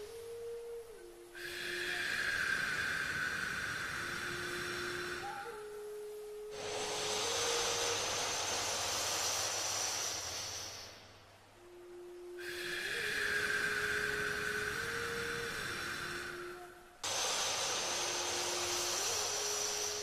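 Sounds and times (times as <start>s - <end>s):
slow nasal breathing: 0.0s - 20.0s.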